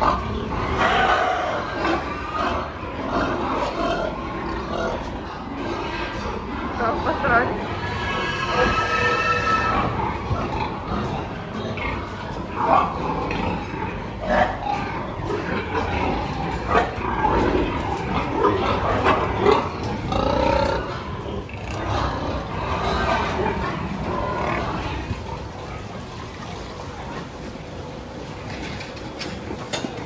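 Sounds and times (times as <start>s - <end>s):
sows grunting and squealing: 0.0s - 30.0s.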